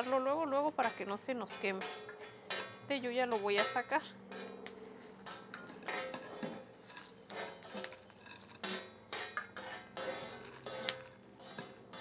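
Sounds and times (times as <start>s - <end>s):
metal spoon scraping griddle: 0.0s - 12.0s.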